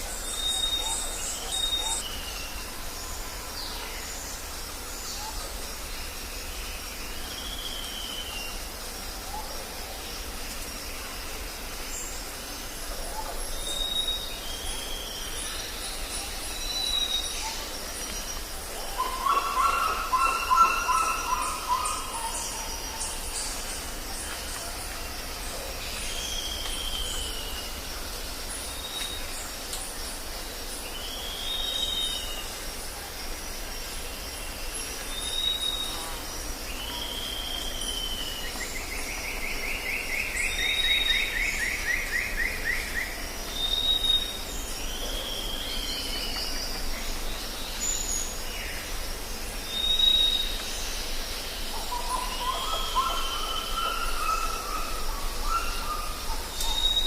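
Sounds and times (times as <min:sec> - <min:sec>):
high insect drone: 0:00.0 - 0:57.0
jungle birds calling: 0:00.0 - 0:57.0.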